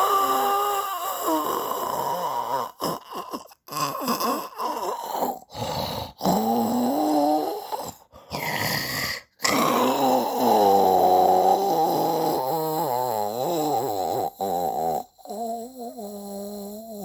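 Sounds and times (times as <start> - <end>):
snoring with wavering tone: 0.0 - 17.0.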